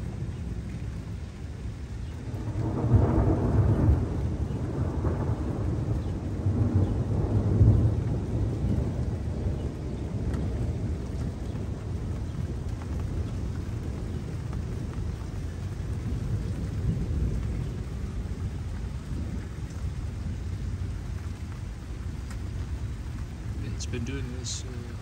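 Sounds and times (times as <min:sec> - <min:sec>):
raindrops ticking: 0:00.0 - 0:25.0
thunder rumbling: 0:00.0 - 0:25.0.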